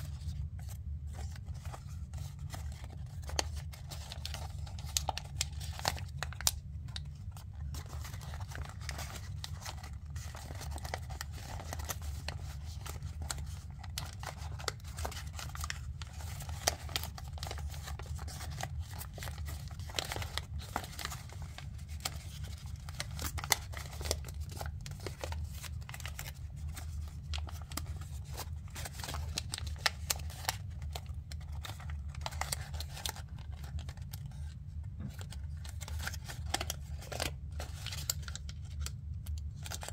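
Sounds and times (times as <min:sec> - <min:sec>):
paper crinkling and rustling: 0:00.0 - 0:39.9.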